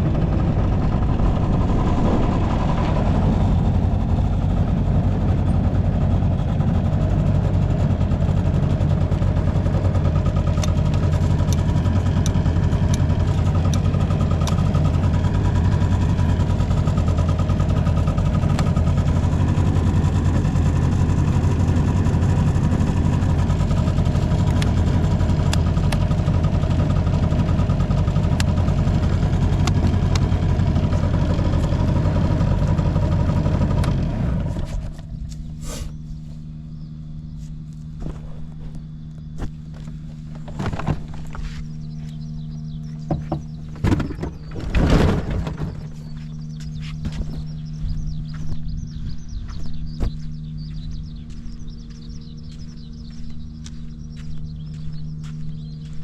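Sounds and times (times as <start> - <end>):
scooter engine running: 0.0 - 56.0.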